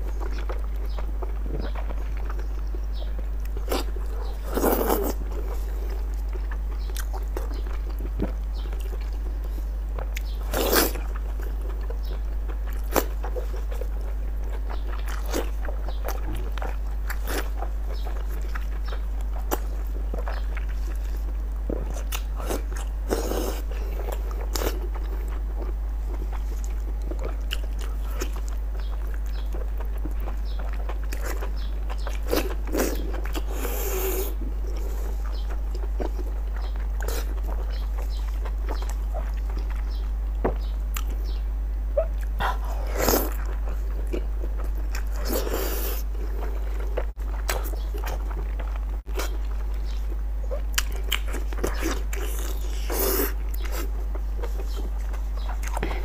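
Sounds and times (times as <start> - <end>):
low hum: 0.0 - 56.0
wet chewing and smacking: 0.0 - 56.0.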